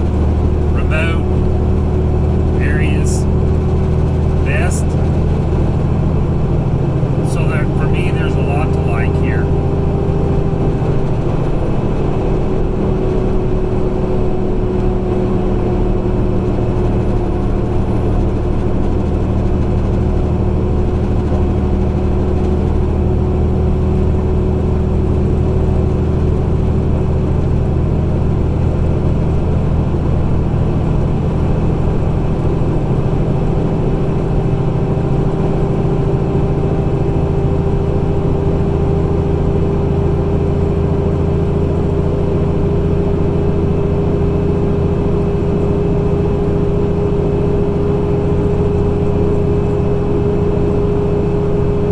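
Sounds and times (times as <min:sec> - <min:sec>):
truck engine and road drone: 0:00.0 - 0:51.9.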